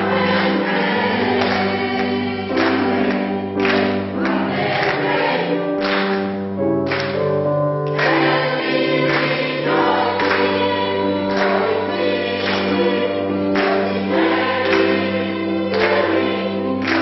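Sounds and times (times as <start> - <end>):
choir singing gospel: 0.0 - 6.4, 7.9 - 17.0.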